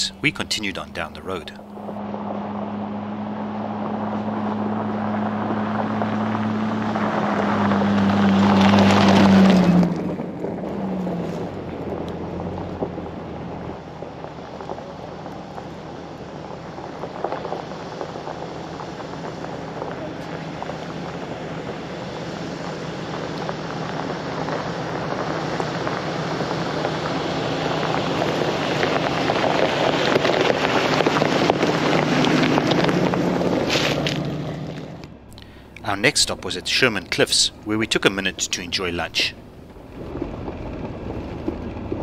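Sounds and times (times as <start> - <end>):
low engine note: 0.0 - 42.0
road and tyre noise: 0.0 - 42.0.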